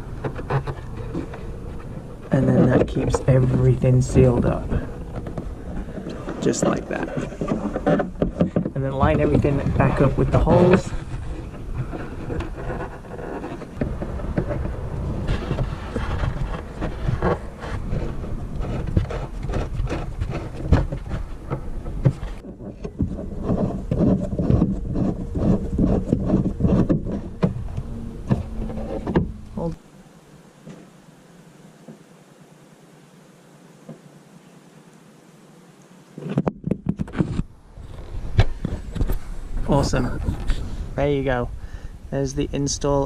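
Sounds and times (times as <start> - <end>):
wind buffeting microphone: 0.0 - 29.8, 37.2 - 43.0.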